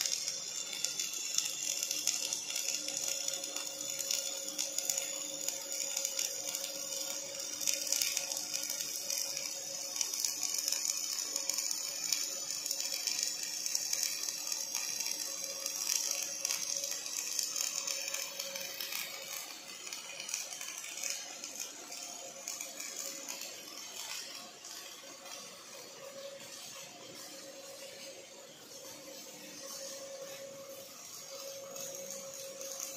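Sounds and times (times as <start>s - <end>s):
welding arc crackling hiss: 0.0s - 32.9s.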